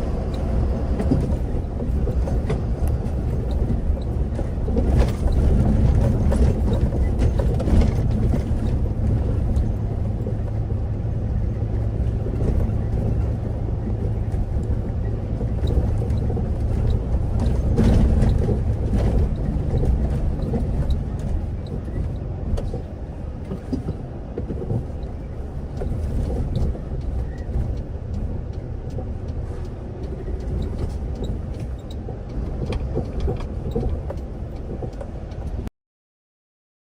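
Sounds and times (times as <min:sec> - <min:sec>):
truck diesel engine drone: 0:00.0 - 0:35.7.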